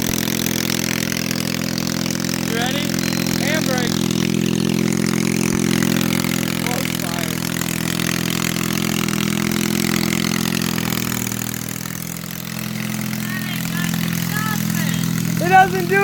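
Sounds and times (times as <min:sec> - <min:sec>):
small tractor engine running: 0:00.0 - 0:16.0.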